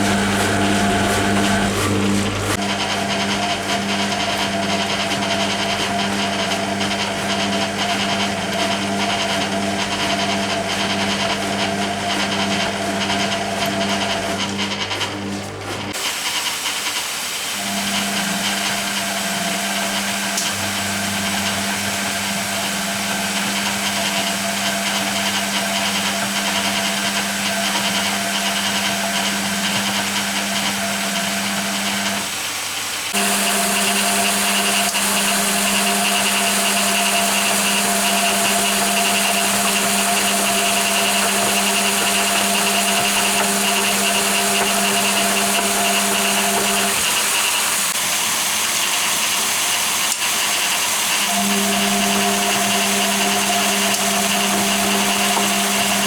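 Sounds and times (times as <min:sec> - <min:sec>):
washing machine hissing: 0:00.0 - 0:56.0
washing machine hum: 0:00.0 - 0:56.0.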